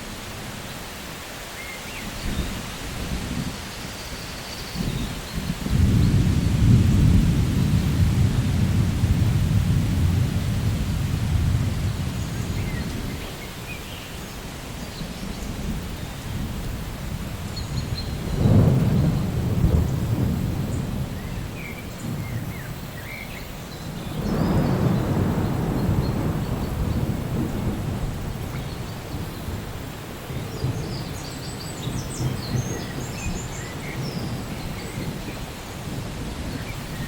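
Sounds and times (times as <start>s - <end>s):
steady rain: 0.0s - 37.0s
thunder rumbling: 4.7s - 13.6s, 14.8s - 23.0s, 23.8s - 37.0s.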